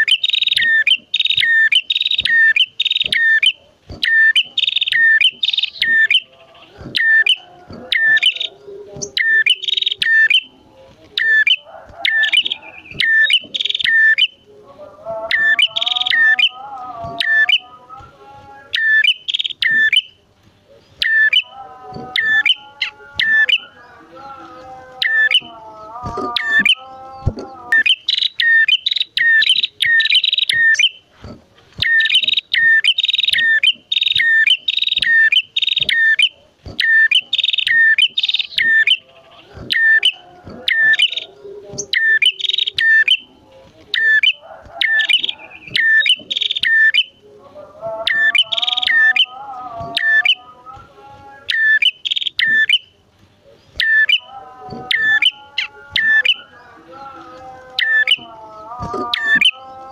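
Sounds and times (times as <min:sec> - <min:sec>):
birds chirping sharply: 0:00.0 - 0:14.5, 0:15.3 - 0:17.8, 0:18.6 - 0:31.1, 0:31.8 - 0:47.3, 0:47.9 - 0:50.6, 0:51.3 - 0:59.9.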